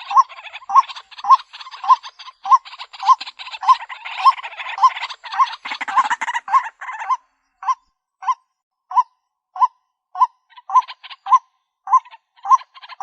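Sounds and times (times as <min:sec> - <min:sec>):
raspy croaks: 0:00.0 - 0:07.8, 0:10.2 - 0:13.0.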